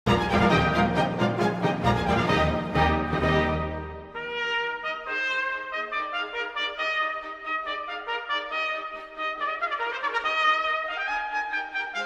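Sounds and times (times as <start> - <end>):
brass band playing: 0.1 - 12.0.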